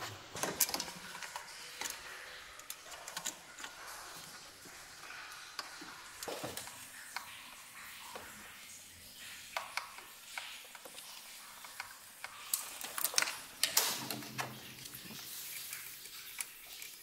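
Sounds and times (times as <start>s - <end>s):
hand tools clicking and tapping: 0.0s - 8.5s, 9.5s - 17.0s.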